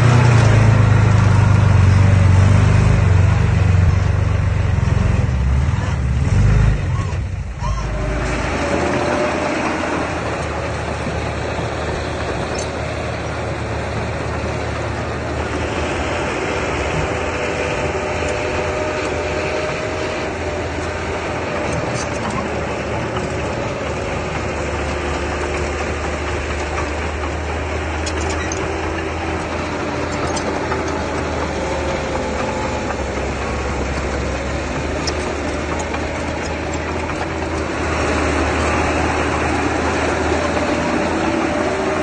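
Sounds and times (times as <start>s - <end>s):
heavy machinery diesel engine: 0.0s - 42.0s.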